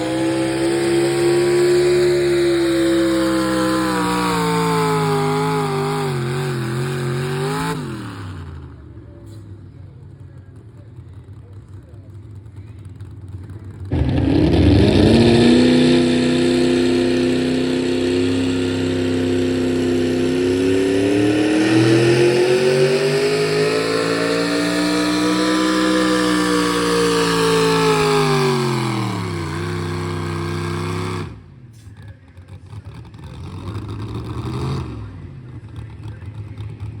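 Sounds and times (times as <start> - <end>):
engine at full throttle: 0.0 - 37.0.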